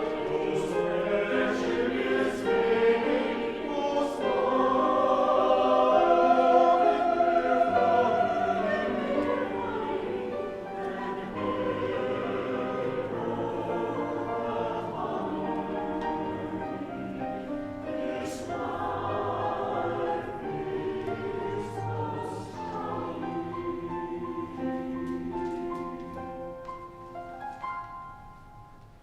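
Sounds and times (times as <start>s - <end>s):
choir singing: 0.0s - 27.0s
piano accompaniment: 0.0s - 29.0s.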